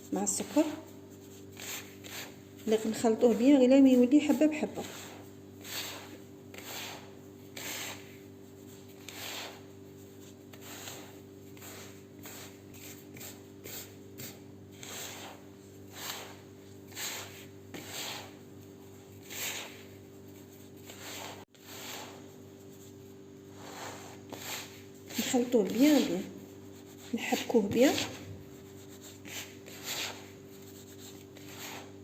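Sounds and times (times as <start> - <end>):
gritty rasping of grains in bowl: 0.0 - 32.0.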